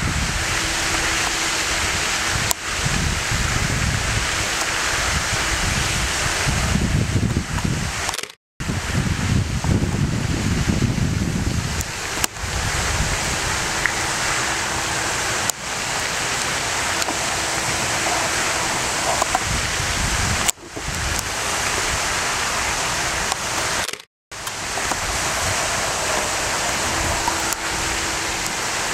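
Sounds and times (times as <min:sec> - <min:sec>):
steady rushing noise: 0:00.0 - 0:28.9.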